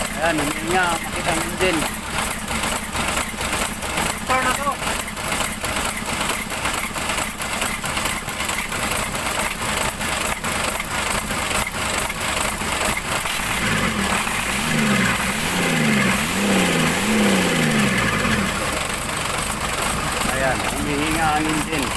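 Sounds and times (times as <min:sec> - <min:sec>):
diesel engine clattering: 0:00.0 - 0:21.9.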